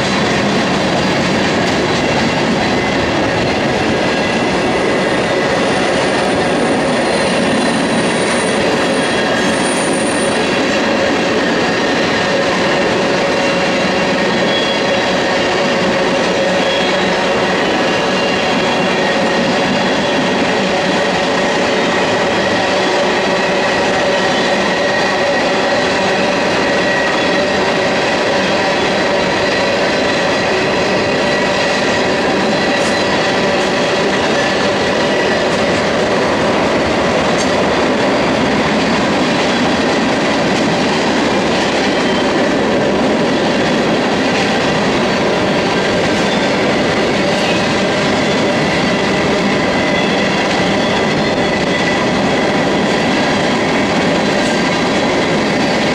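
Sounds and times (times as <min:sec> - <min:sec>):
freight train wheels on rails: 0:00.0 - 0:55.9.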